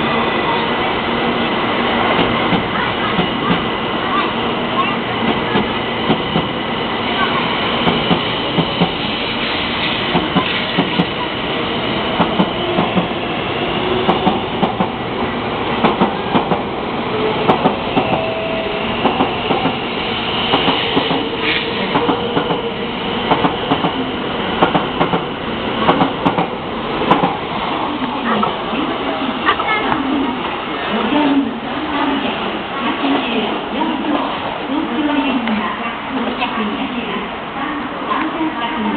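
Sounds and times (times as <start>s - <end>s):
train rumbling on rails: 0.0s - 38.9s
rail clicks: 1.4s - 13.2s, 14.0s - 16.7s, 17.3s - 18.4s, 19.0s - 37.0s.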